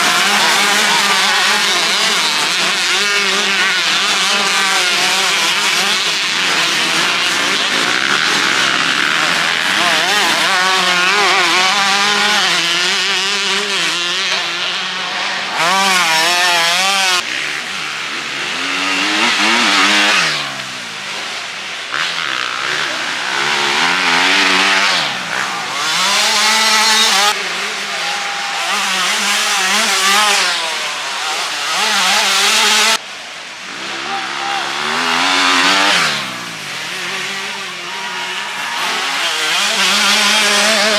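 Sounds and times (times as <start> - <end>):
motocross engines revving: 0.0 - 40.9.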